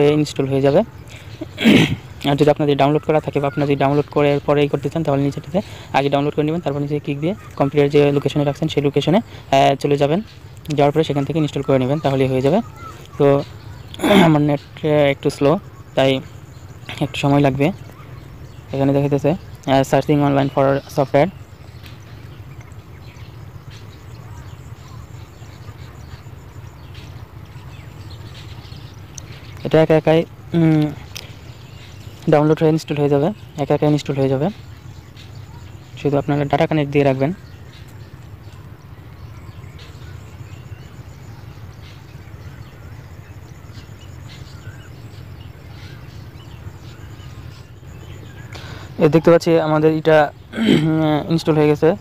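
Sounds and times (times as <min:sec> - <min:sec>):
faint chirps: 0:00.0 - 0:52.0
steady low hum: 0:00.0 - 0:52.0.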